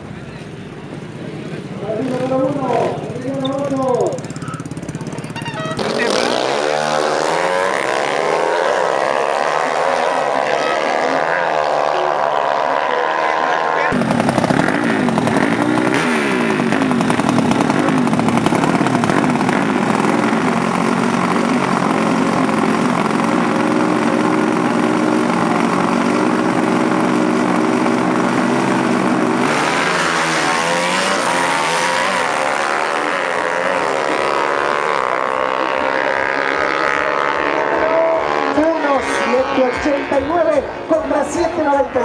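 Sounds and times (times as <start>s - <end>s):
motorcycle engines revving hard: 1.2s - 42.0s.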